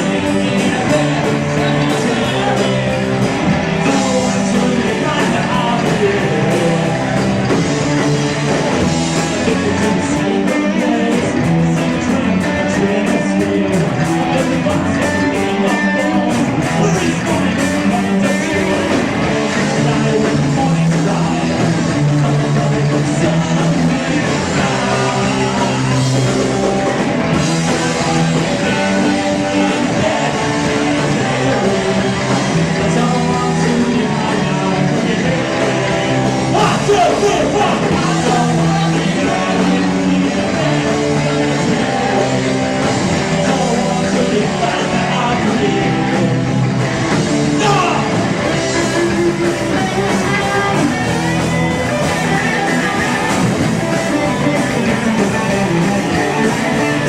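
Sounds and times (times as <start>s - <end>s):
person singing: 0.0s - 46.5s, 47.4s - 57.0s
electric guitar: 0.0s - 57.0s
live rock band playing: 0.0s - 57.0s.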